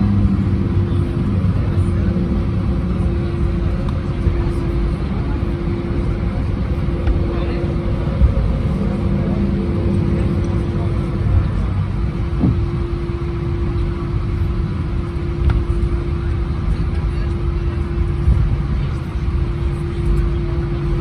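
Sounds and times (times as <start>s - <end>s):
constant hum: 0.0s - 21.0s
low vehicle rumble: 0.0s - 21.0s.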